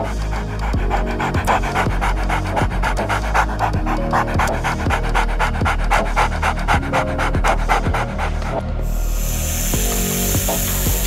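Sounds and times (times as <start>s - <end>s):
background music: 0.0s - 11.0s
dog panting: 0.0s - 11.0s.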